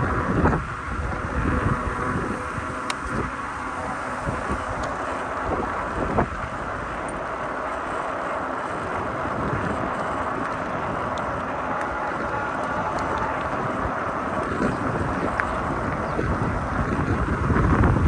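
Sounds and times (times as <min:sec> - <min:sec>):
e-bike rolling noise: 0:00.0 - 0:18.0
wind buffeting microphone: 0:00.0 - 0:18.0.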